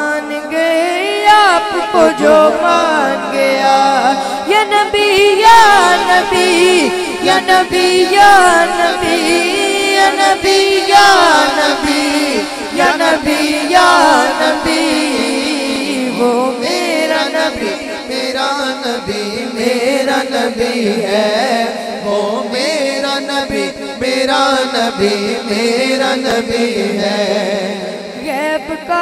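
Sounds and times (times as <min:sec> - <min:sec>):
boy singing ornamented melody: 0:00.0 - 0:29.0.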